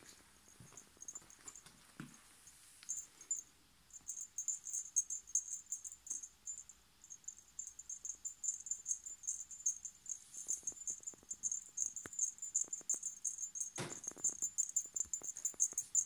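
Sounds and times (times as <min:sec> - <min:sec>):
high-pitched pulsing chirping: 0:02.9 - 0:16.0.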